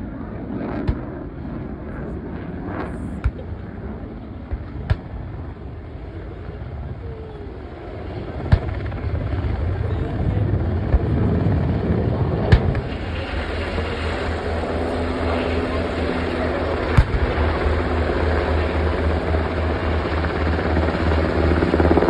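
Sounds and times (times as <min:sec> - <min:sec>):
helicopter rotor beating: 0:00.0 - 0:22.0.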